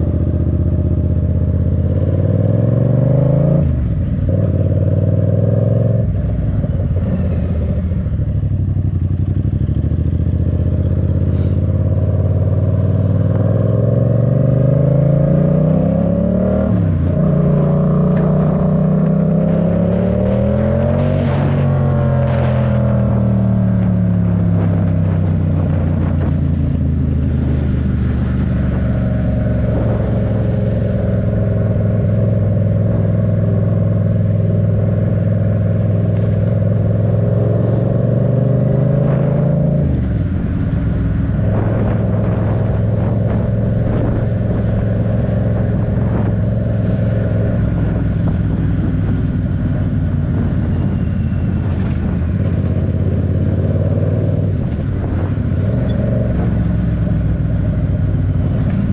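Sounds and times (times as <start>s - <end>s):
motorcycle engine running: 3.8s - 14.2s, 16.8s - 38.2s, 39.9s - 58.9s.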